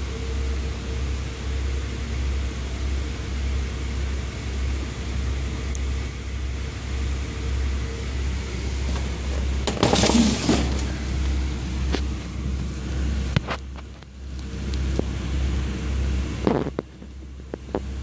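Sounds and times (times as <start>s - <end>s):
low hum and rumble: 0.0s - 18.0s.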